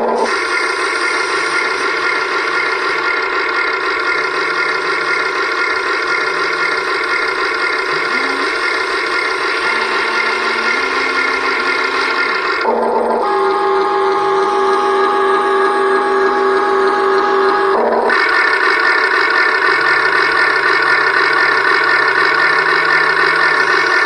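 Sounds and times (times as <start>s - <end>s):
toy excavator mechanical hum: 0.0s - 24.0s.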